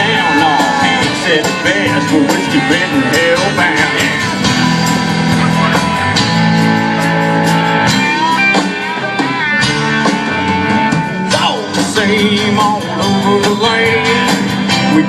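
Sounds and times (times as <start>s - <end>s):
country-rock band playing: 0.0s - 15.0s
guitar: 0.0s - 15.0s.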